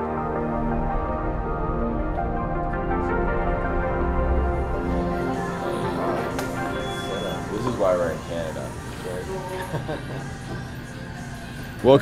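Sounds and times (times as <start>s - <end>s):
calm sustained background music: 0.0s - 12.0s.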